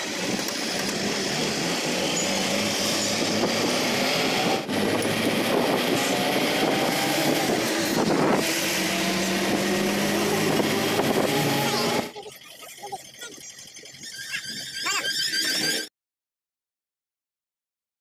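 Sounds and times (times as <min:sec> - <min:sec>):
bus engine and road drone: 0:00.0 - 0:15.9.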